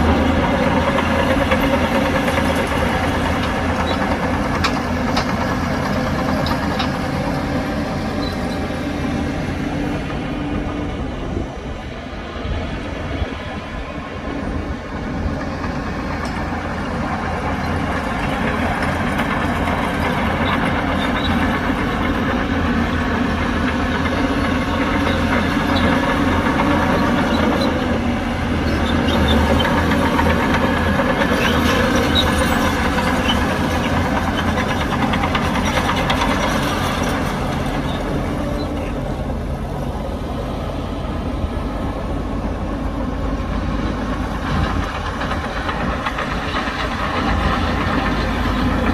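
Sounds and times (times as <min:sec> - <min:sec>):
diesel earthmoving machinery rumbling: 0:00.0 - 0:48.9.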